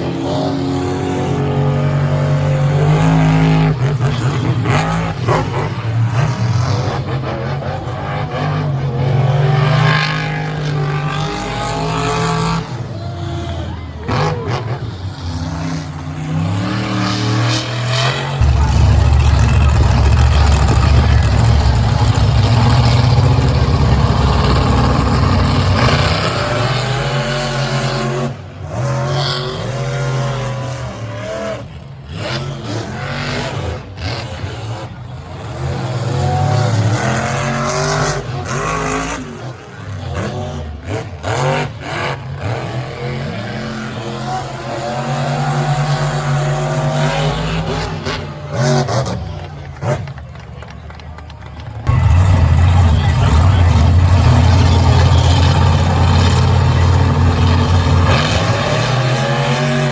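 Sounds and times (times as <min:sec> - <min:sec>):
monster truck engines revving: 0:00.0 - 0:59.9.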